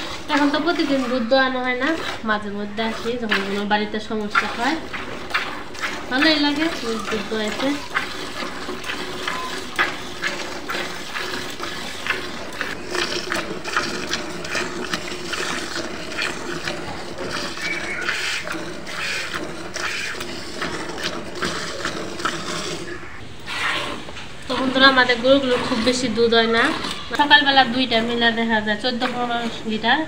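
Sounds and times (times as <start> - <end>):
milk squirting into a pail: 0.0 - 29.6.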